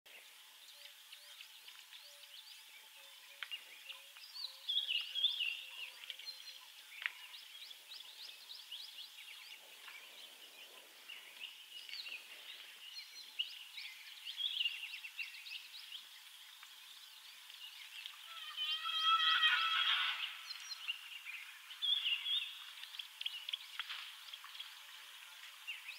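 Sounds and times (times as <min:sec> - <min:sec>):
birds chirping and calling: 0:00.7 - 0:24.7.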